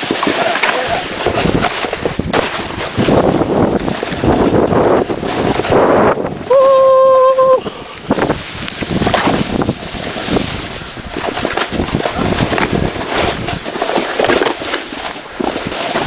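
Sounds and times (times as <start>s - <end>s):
footsteps crunching in snow: 0.0s - 6.2s, 8.0s - 16.0s
wind buffeting microphone: 0.0s - 16.0s.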